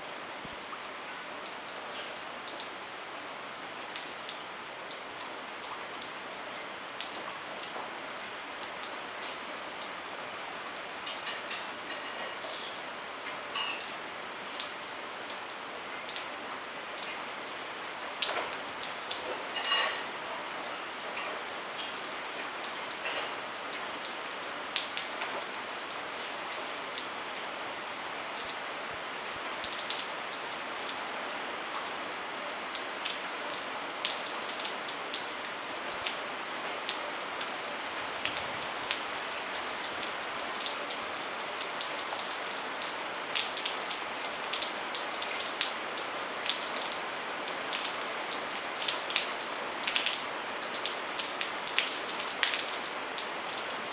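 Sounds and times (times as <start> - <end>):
rain hissing: 7.9 - 53.9.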